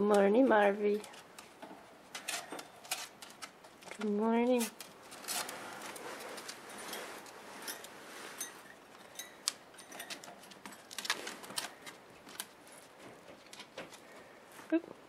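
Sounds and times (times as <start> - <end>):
claws clicking and scratching: 0.1 - 14.4
soft rustle: 0.9 - 14.8.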